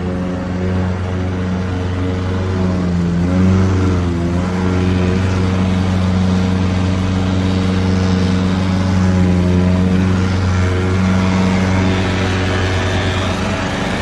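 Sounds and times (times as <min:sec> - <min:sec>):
lawnmower engine running: 0:00.0 - 0:14.0.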